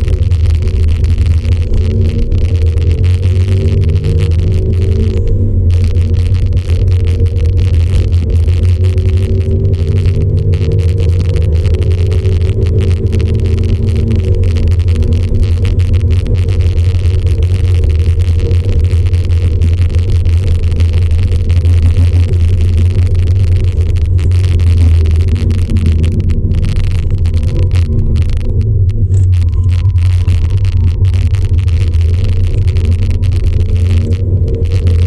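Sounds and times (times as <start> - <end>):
car engine drone: 0.0 - 35.0
road noise: 0.0 - 35.0
wind noise: 0.0 - 35.0.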